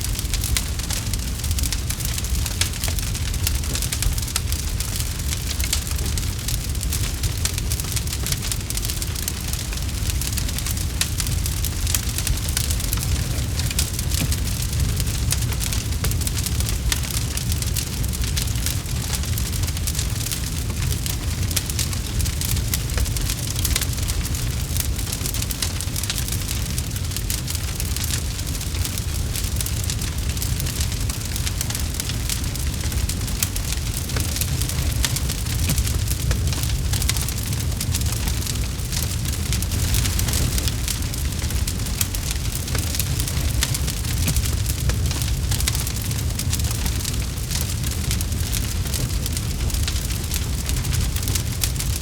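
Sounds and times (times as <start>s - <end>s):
campfire crackling and popping: 0.0s - 52.0s
low rumble of flames: 0.0s - 52.0s.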